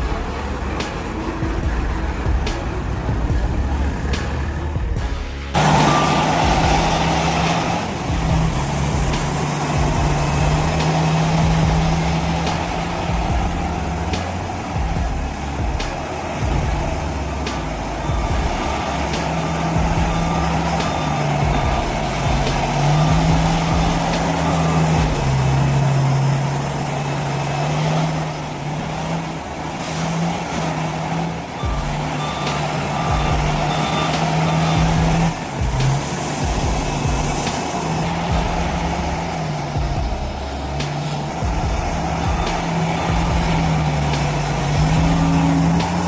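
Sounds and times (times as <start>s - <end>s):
heavy truck engine running: 0.0s - 46.0s
reversing alarm beeping: 0.0s - 46.0s.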